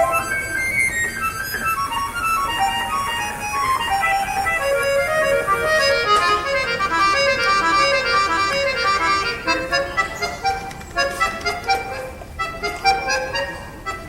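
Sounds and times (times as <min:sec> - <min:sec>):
accordion playing melody: 0:00.0 - 0:14.0.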